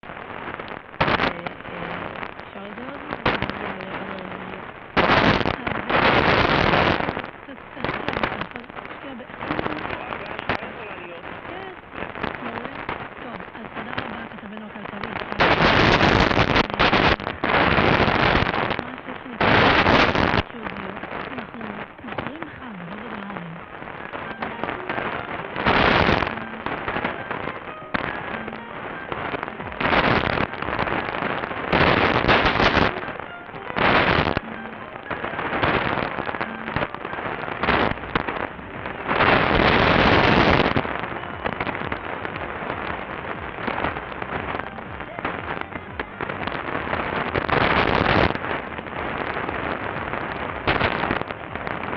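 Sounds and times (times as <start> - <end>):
loud lightning static crashes: 0.0 - 10.9, 11.5 - 51.9
faint radio programme audio: 0.0 - 51.9
radio static crackle: 0.0 - 51.9.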